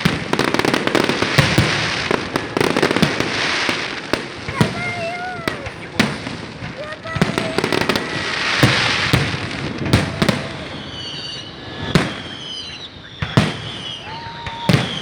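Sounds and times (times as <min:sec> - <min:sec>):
crackling hiss: 0:00.0 - 0:15.0
firework bangs: 0:00.0 - 0:15.0
high firework whistles: 0:00.0 - 0:15.0.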